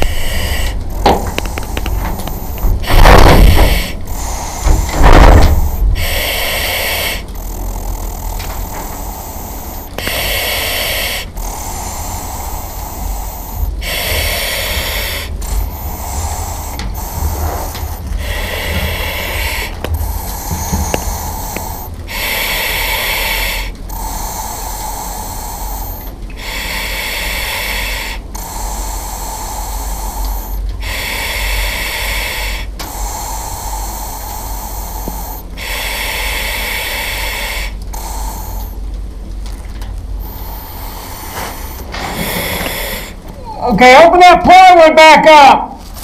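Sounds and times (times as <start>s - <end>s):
person breathing slowly: 0.0s - 43.6s.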